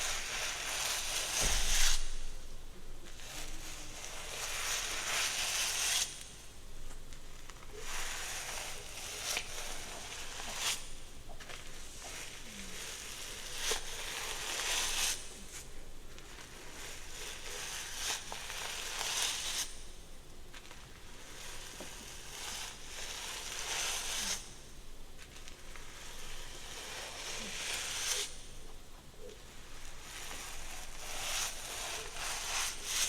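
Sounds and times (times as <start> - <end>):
crackly rustle of hair: 0.0 - 33.0.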